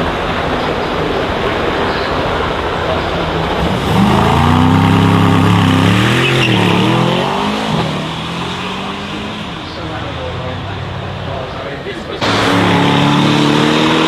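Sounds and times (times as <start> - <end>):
car engine accelerating past: 2.7 - 14.0.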